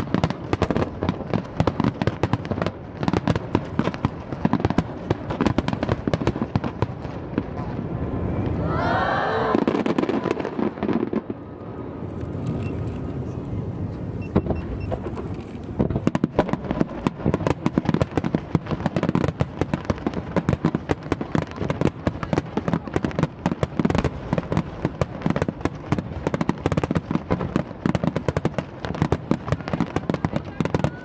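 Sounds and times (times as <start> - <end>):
firework bursts and crackles: 0.0 - 31.0.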